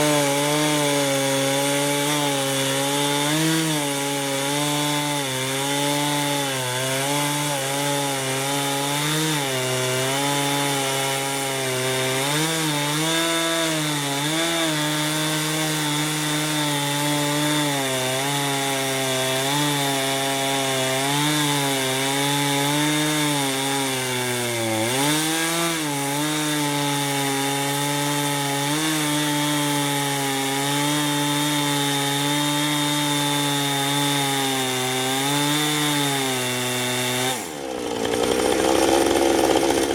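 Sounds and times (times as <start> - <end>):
chainsaw cutting under load: 0.0 - 39.9.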